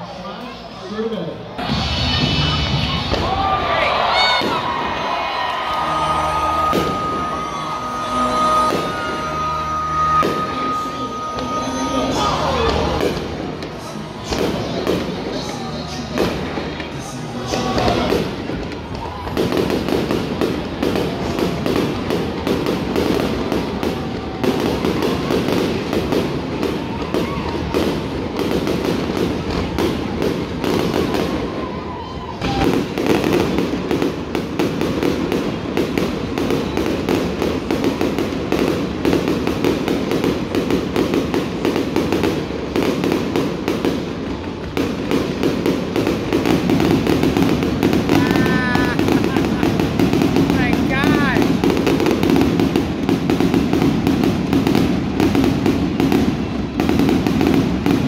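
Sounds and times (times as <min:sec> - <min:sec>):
firework crackling: 0:01.6 - 0:58.0.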